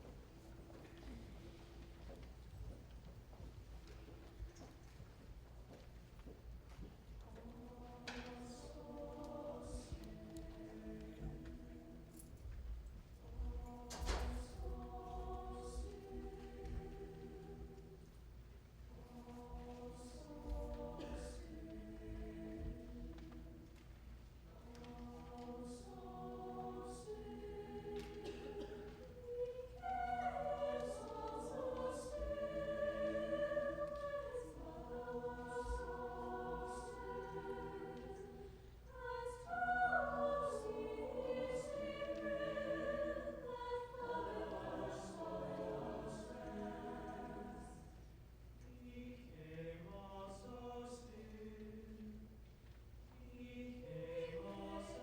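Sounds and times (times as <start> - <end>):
choir singing sustained chords: 7.2 - 52.4, 53.0 - 55.0.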